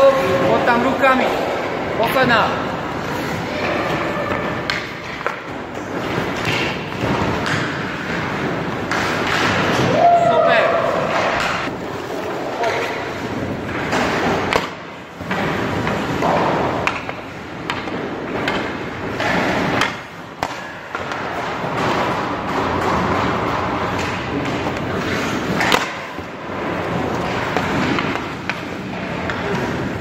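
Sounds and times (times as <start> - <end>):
stick and puck clacks: 0.1 - 10.0, 11.0 - 30.0
skate blades scraping ice: 2.8 - 10.0, 10.9 - 30.0.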